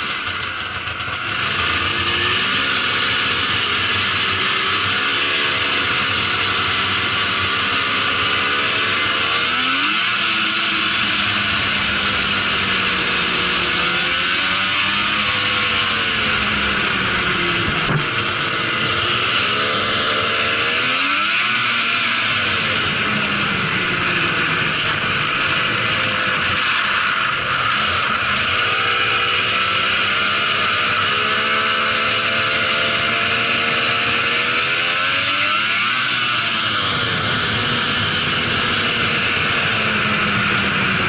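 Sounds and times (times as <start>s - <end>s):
snowmobile engine revving: 0.0s - 41.0s.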